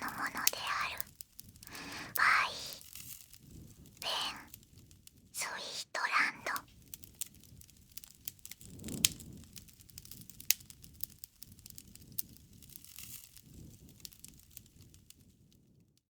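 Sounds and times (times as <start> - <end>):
wood fire crackling: 0.0 - 15.6.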